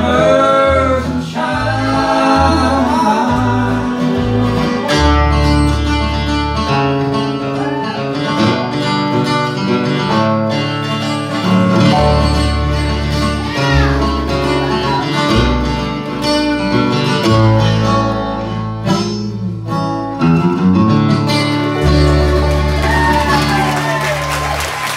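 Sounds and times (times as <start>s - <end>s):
banjo: 0.0s - 23.5s
mandolin: 0.0s - 24.5s
acoustic guitar: 0.0s - 24.9s
upright bass: 0.0s - 24.9s.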